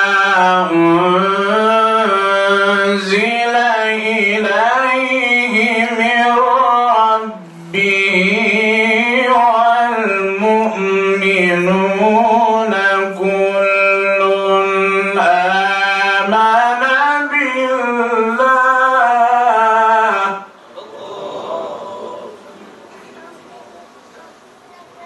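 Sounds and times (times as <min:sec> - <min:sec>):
man reciting melodically: 0:00.0 - 0:23.4.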